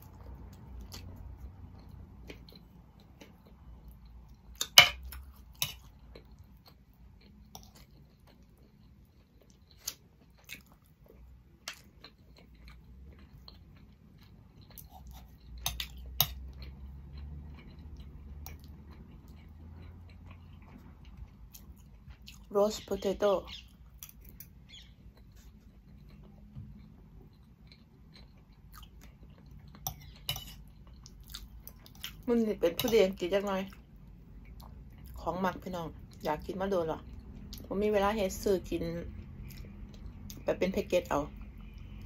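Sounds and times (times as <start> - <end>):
chewing and mouth sounds: 0.0 - 22.6, 23.5 - 35.3, 39.0 - 40.5.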